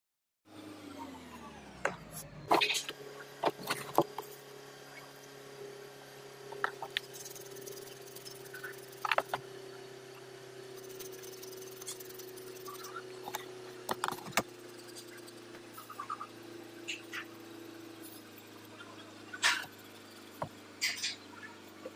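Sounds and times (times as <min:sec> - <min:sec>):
steady low hum: 0:01.2 - 0:21.9.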